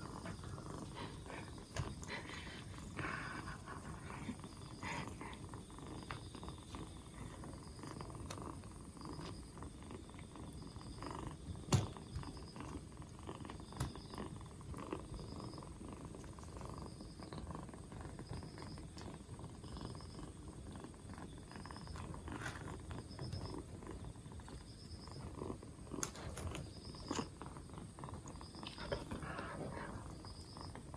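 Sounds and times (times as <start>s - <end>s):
kitten purring: 0.0s - 30.9s.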